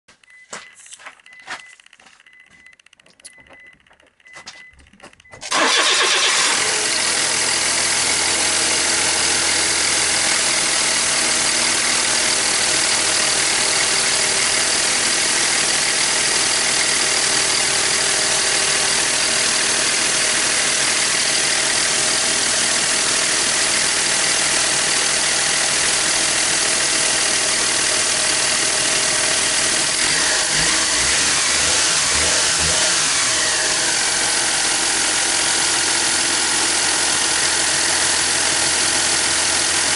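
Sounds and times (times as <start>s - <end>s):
car engine starting and idling: 2.9s - 39.9s.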